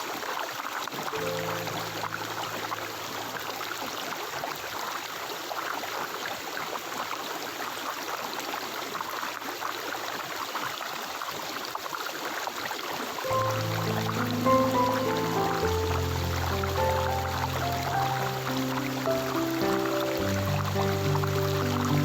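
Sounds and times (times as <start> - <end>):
stream water babbling: 0.0 - 22.0.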